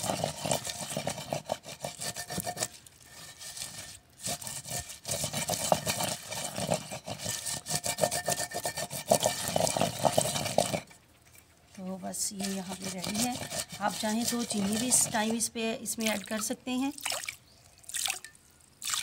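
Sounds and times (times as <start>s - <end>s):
pestle grinding seeds in mortar: 0.0s - 16.1s.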